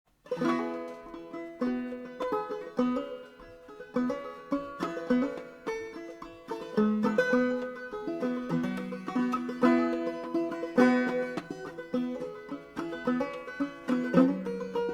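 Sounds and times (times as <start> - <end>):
banjo plucked: 0.1 - 14.9.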